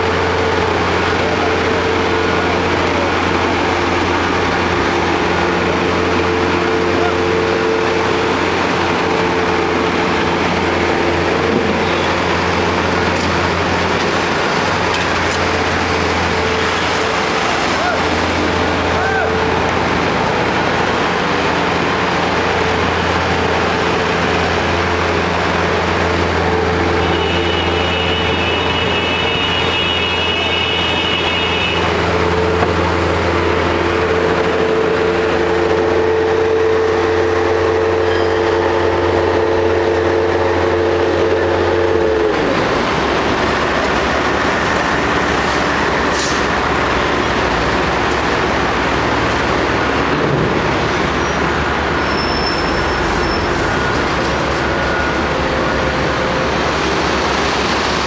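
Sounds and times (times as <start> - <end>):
heavy machine engine whining: 0.0 - 58.0
road traffic noise: 0.0 - 58.0.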